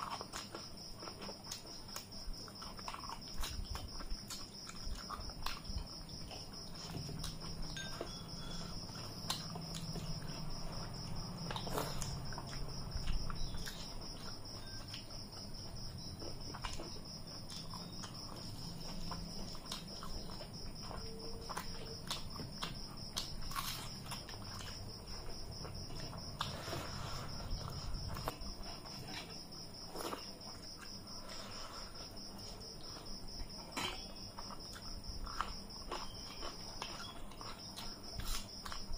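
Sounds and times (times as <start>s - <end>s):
crickets trilling: 0.0s - 38.9s
person chewing: 0.0s - 38.9s.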